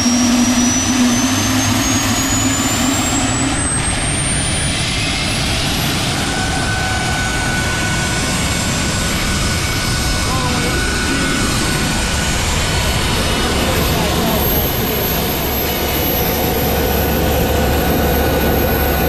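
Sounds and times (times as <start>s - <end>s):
gas turbine engine whine: 0.0s - 19.0s.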